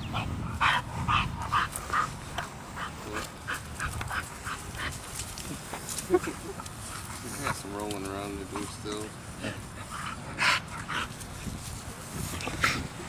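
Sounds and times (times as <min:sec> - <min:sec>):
dog panting: 0:00.0 - 0:11.4.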